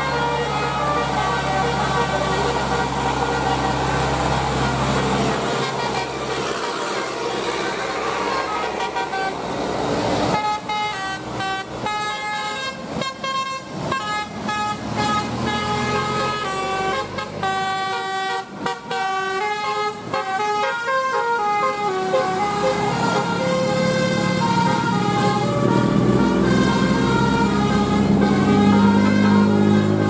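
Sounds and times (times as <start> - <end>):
tuned air horns playing melody: 0.0 - 9.4, 10.3 - 30.0
traffic noise: 0.0 - 30.0.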